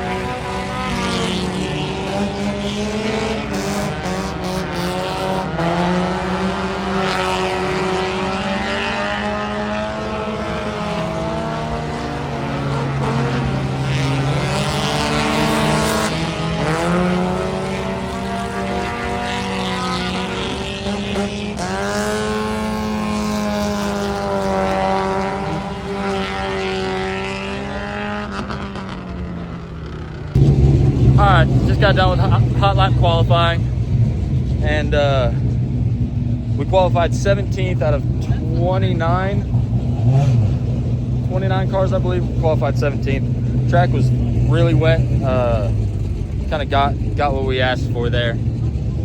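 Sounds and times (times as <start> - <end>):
race car engines revving: 0.0 - 49.0.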